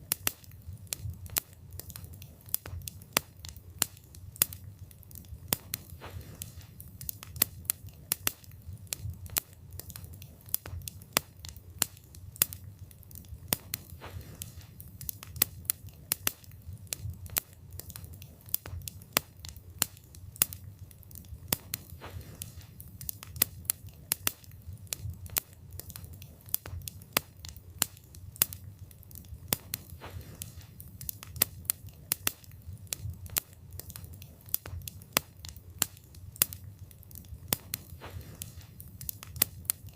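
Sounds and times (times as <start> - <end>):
low rumble of flames: 0.0 - 39.9
wood crackling and popping: 0.0 - 39.9.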